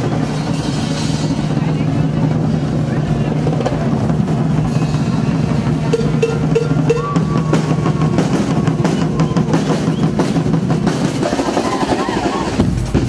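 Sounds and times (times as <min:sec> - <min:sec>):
carnival band playing loudly: 0:00.0 - 0:13.0
marching drums and cymbals: 0:00.0 - 0:13.0.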